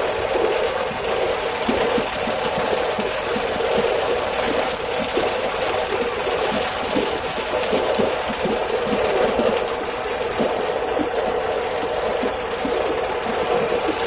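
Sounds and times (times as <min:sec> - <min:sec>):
shredding machine humming and clattering: 0:00.0 - 0:14.0.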